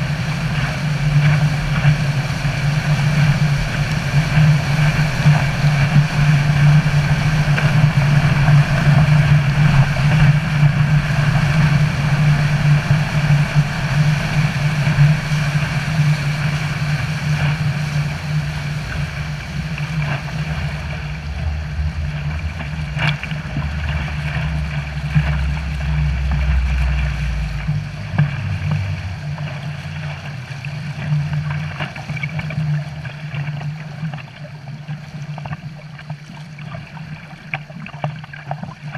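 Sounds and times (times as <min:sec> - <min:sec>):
outboard motor running: 0:00.0 - 0:38.9
water rushing and splashing: 0:00.0 - 0:38.9.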